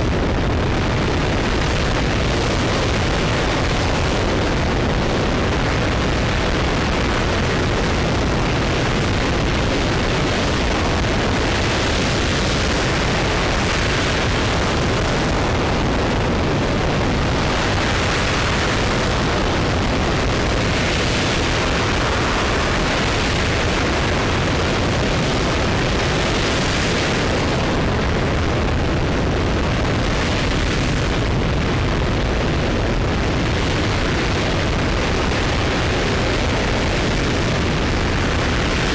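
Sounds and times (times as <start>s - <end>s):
rocket engine rumble: 0.0s - 38.9s.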